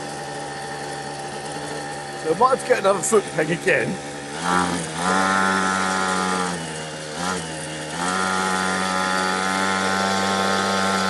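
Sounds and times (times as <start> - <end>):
two-stroke mini moto engine: 0.0 - 11.0.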